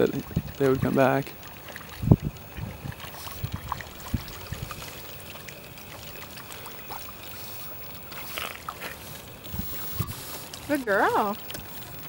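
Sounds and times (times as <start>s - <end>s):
floodwater flowing and trickling: 0.0s - 12.0s.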